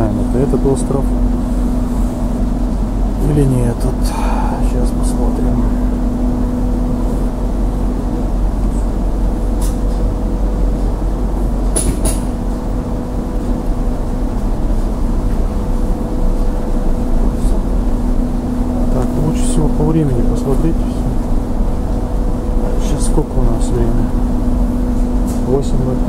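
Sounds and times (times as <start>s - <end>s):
constant hum: 0.0s - 26.0s
ferry engines droning: 0.0s - 26.0s.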